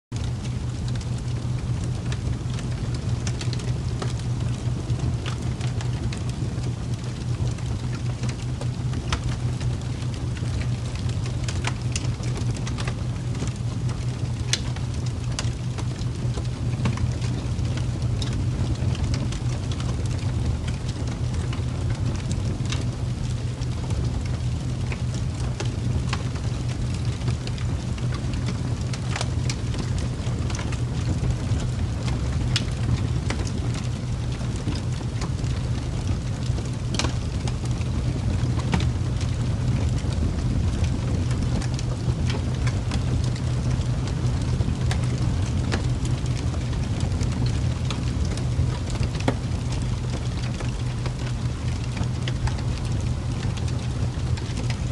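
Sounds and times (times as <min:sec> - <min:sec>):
low rumbling ambience: 0:00.1 - 0:54.8
crackling ticks: 0:00.2 - 0:54.7.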